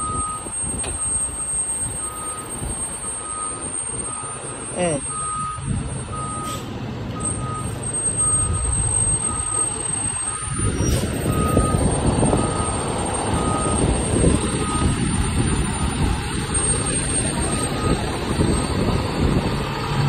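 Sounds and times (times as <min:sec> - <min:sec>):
diesel engine running: 0:00.0 - 0:20.0
truck backup alarm beeping: 0:00.0 - 0:20.0.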